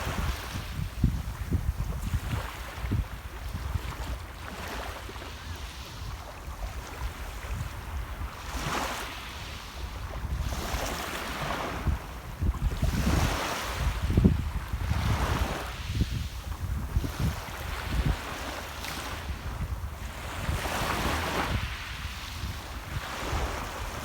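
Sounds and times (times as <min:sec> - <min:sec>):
sea waves washing onto shore: 0:00.0 - 0:24.0
wind rumble on microphone: 0:00.0 - 0:24.0.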